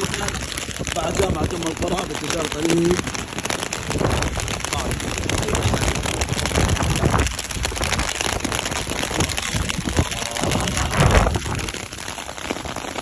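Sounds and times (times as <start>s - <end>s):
rain hitting a car: 0.0s - 13.0s
road rumble: 0.0s - 13.0s
rushing wind: 0.0s - 13.0s.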